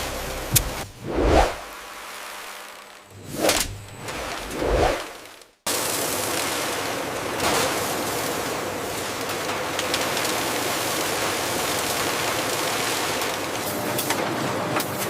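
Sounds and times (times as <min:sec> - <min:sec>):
factory machinery hiss and hum: 0:00.0 - 0:15.0.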